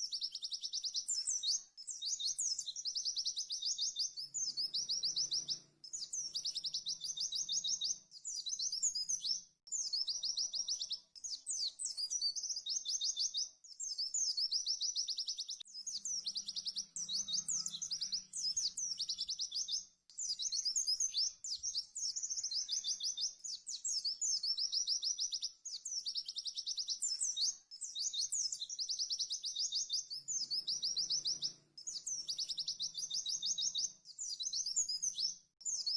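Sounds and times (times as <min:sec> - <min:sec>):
bird singing rapid high trills: 0:00.0 - 0:35.9.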